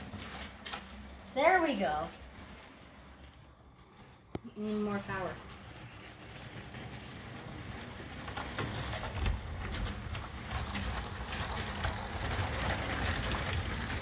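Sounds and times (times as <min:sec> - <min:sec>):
light clicks of wheels on track: 0:00.0 - 0:14.0
toy train motor rumbling: 0:00.0 - 0:14.0.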